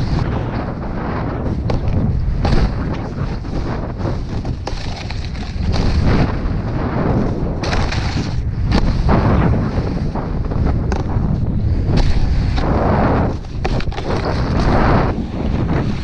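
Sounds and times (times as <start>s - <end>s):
snowboard scraping on snow: 0.0s - 16.0s
snowboard sliding on box: 0.0s - 16.0s
wind buffeting microphone: 0.0s - 16.0s.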